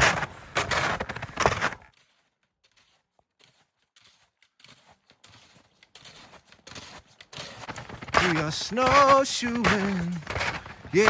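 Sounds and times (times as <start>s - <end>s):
snowshoe footsteps crunching in snow: 0.0s - 11.0s.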